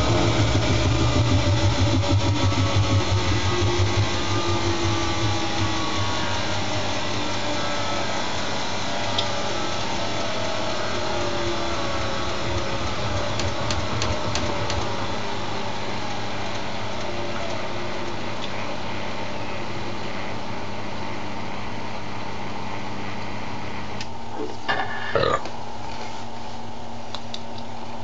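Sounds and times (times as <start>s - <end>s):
washing machine motor hum: 0.0s - 24.8s.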